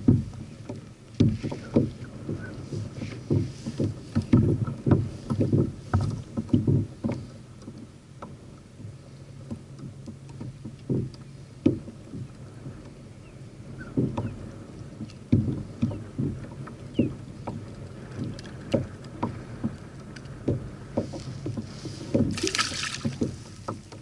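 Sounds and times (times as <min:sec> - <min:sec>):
dull knocks on plastic kayak hull: 0:00.0 - 0:08.4, 0:09.5 - 0:12.3, 0:13.8 - 0:14.4, 0:15.0 - 0:19.8, 0:20.4 - 0:24.0.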